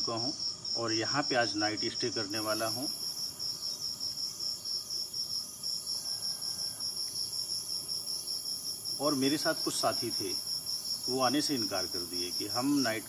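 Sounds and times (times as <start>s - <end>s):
crickets chirping in rapid trill: 0.0s - 13.0s.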